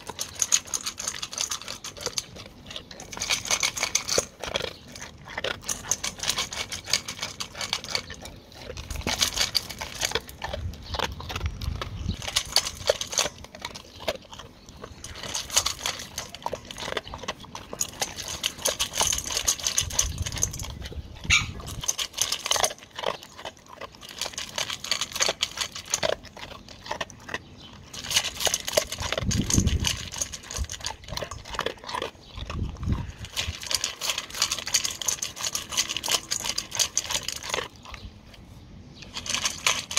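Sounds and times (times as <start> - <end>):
dog crunching kibble in metal bowl: 0.0 - 39.9.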